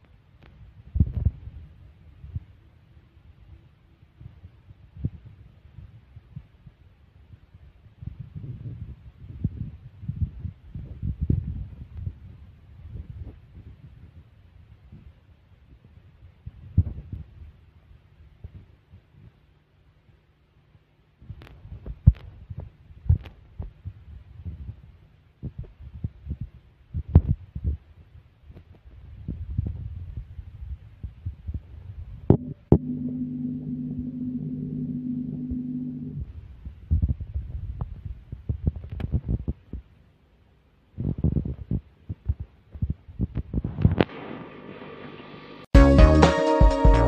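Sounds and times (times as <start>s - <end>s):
faint steady hum: 0.0s - 46.2s.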